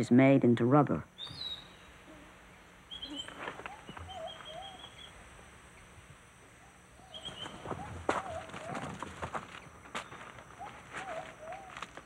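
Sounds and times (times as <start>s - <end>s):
birds chirping: 1.1s - 12.0s.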